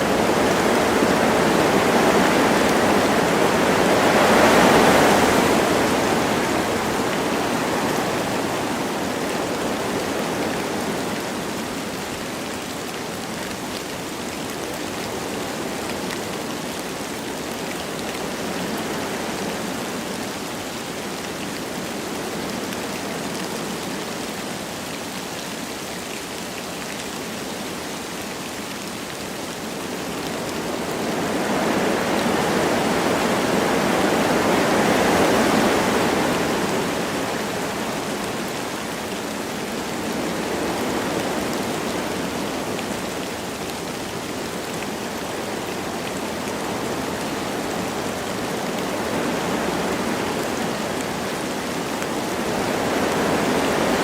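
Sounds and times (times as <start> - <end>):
light rain falling: 0.0 - 54.0
wind through forest trees: 0.0 - 54.0.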